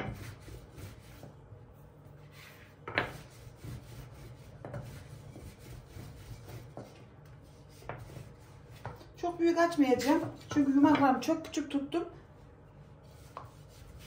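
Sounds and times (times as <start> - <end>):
rolling pin rubbing on dough: 0.0 - 11.0, 12.4 - 14.0.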